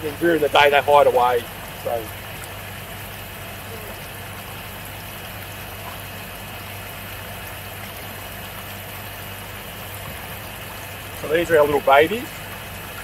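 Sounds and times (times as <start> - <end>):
low machine hum: 0.0 - 13.0
water running through tanks: 0.0 - 13.0.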